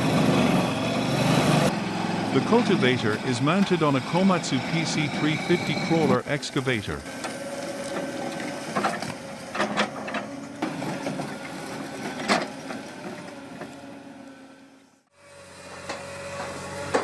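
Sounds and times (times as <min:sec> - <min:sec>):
excavator machine whine: 0:00.0 - 0:17.0.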